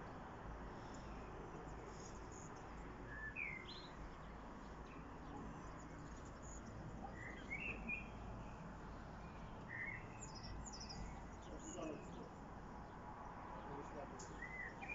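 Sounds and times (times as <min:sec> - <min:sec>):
songbirds singing: 0:00.0 - 0:14.9.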